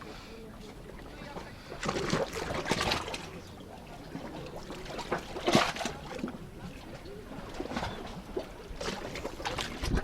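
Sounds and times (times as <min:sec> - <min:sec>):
sea water lapping: 0:00.0 - 0:10.0.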